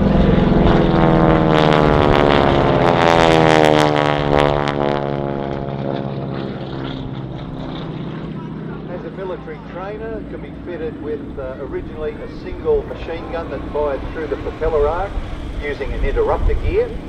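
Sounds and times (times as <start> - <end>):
propeller plane flying overhead: 0.0 - 17.0.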